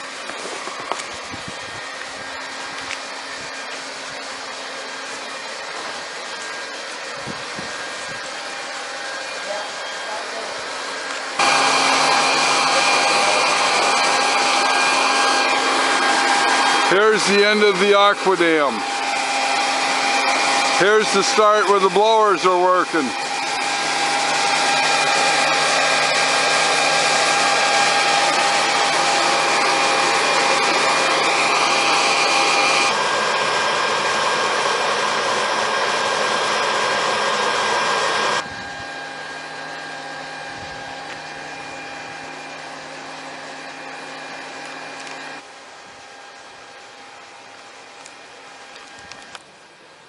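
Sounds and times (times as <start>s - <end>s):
leaf blowers running: 0.0s - 49.9s.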